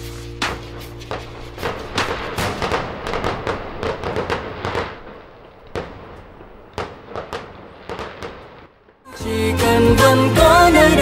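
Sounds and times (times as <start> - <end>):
fireworks bursting: 0.0 - 10.8.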